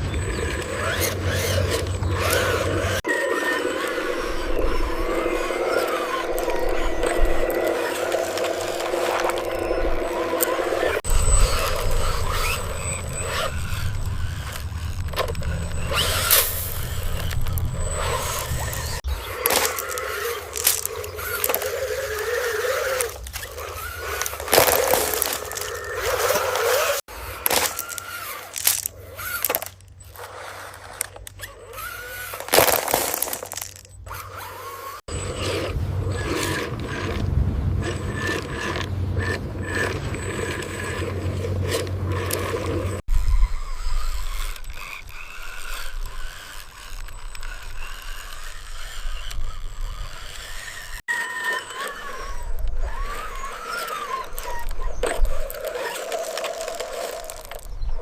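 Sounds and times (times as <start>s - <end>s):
small motor and gears whirring: 0.0s - 58.0s.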